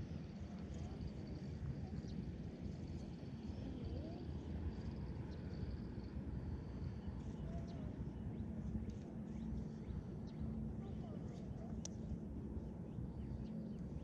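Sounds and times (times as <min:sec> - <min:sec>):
faint hum: 0:00.0 - 0:14.0
steady low rumble: 0:00.0 - 0:14.0.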